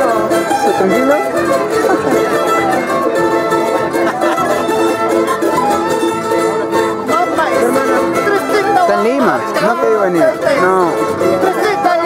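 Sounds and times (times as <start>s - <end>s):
acoustic guitars: 0.0s - 12.0s
string band playing: 0.0s - 12.0s
violins playing melody: 0.0s - 12.0s.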